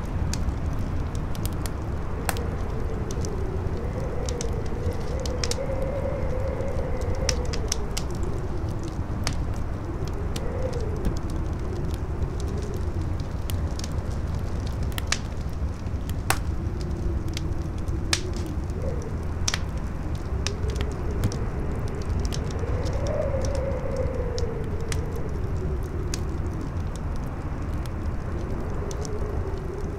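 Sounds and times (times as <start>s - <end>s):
campfire crackling and popping: 0.0s - 29.9s
strong wind rumble: 0.0s - 29.9s
wavering wind howl: 0.0s - 29.9s.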